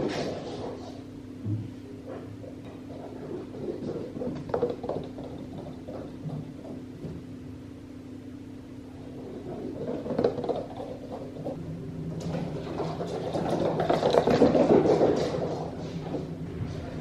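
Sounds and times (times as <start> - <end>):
cats galloping across floor: 0.0 - 1.1, 2.0 - 7.3, 9.0 - 17.0
steady low hum: 0.0 - 17.0.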